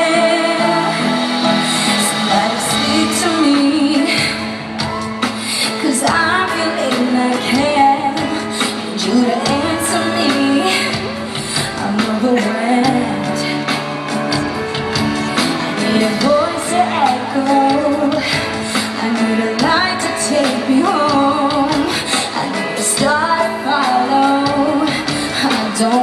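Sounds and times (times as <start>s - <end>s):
band accompaniment: 0.0s - 26.0s
woman singing a ballad: 0.0s - 26.0s.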